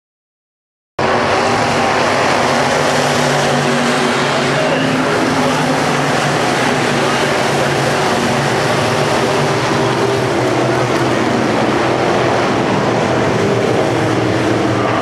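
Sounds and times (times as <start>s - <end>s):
race car engines droning: 1.0s - 15.0s.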